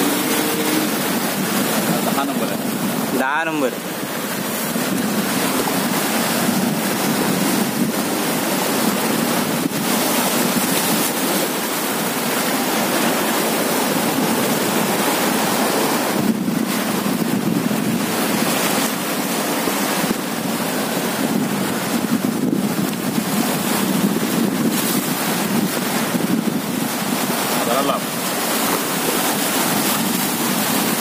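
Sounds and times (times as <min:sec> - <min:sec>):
surf on rocky shore: 0:00.0 - 0:31.0
wind on microphone: 0:00.0 - 0:31.0.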